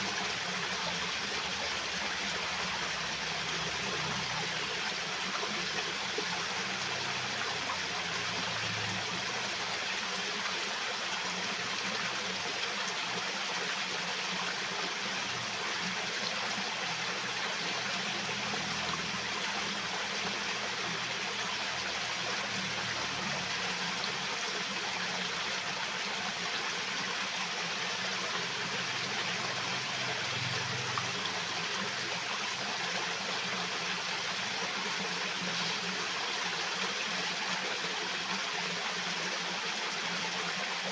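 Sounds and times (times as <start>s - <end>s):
stream of water flowing: 0.0s - 40.9s.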